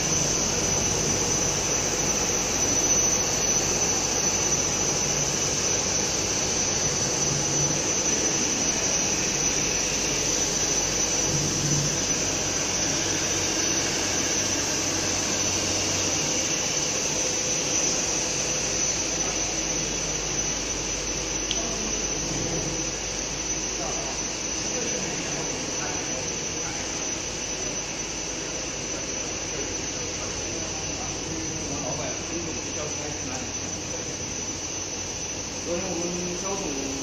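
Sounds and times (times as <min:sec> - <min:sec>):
high whine: 0:00.0 - 0:37.0.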